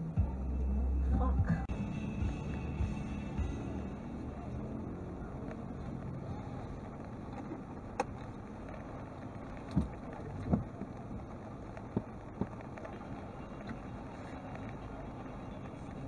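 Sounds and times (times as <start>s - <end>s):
low rumble in car cabin: 0.0s - 16.0s
windshield wiper sweep: 1.7s - 16.0s.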